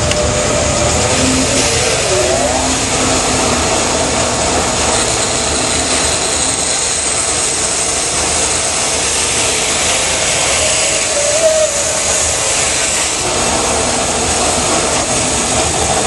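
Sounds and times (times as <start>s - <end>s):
bandsaw cutting wood: 0.0s - 16.0s.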